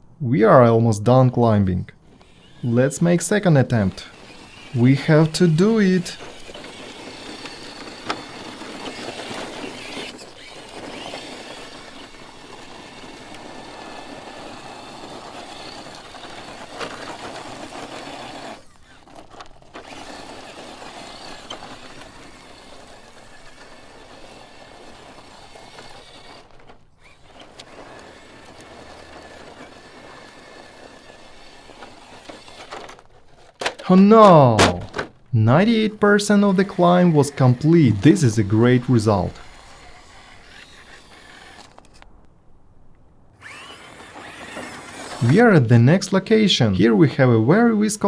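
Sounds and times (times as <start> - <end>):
electric motor whining: 2.0 - 42.2, 43.4 - 45.6.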